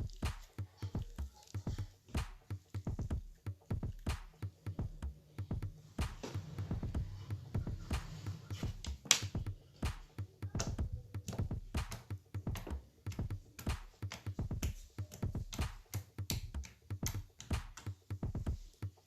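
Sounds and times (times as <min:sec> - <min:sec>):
electronic music with bass line: 0:00.0 - 0:19.0.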